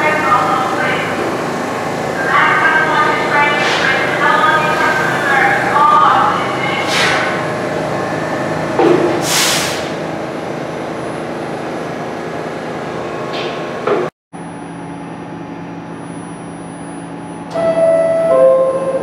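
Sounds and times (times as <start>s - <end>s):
subway train humming: 0.0s - 19.0s.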